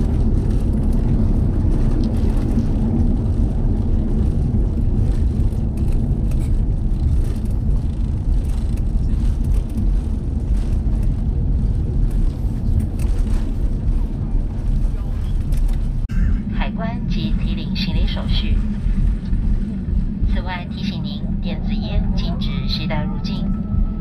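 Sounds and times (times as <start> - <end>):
airliner cabin low rumble: 0.0 - 24.0.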